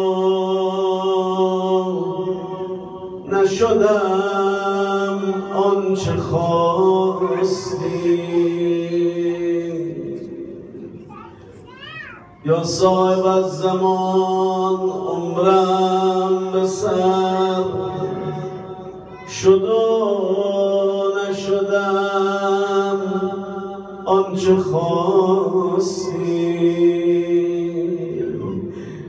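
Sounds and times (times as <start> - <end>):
man chanting unaccompanied: 0.0 - 10.8, 12.4 - 28.7.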